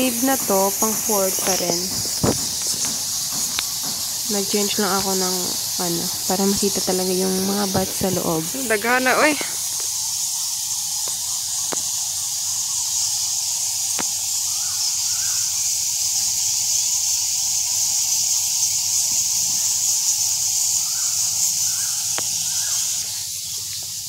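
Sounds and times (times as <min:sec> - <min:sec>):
bat colony chittering: 0:00.0 - 0:24.0.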